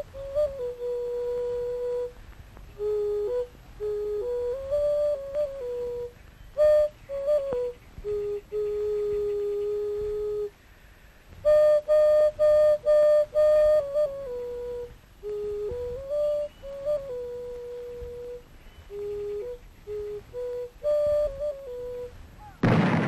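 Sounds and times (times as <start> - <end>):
wooden flute melody: 0.0 - 10.6, 11.3 - 22.6.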